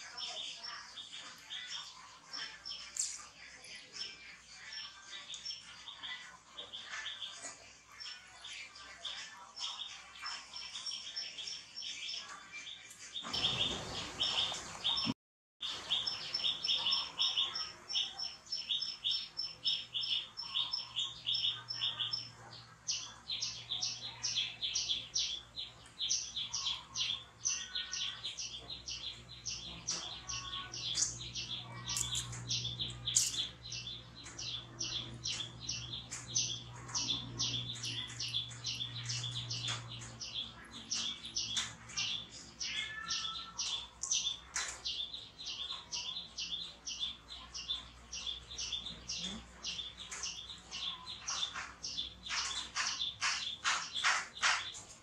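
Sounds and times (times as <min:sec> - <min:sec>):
small bird chirping rapidly: 0:00.0 - 0:55.0.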